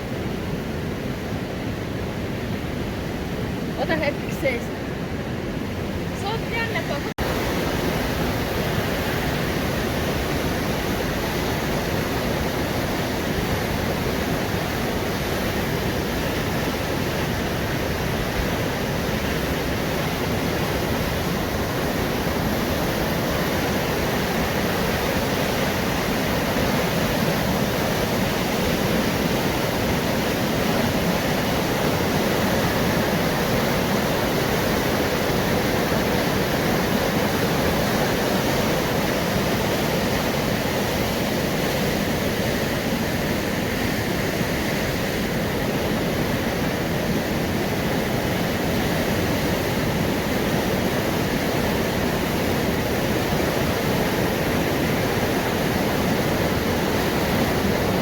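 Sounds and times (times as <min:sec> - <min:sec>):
rushing river water: 0:00.0 - 0:58.0.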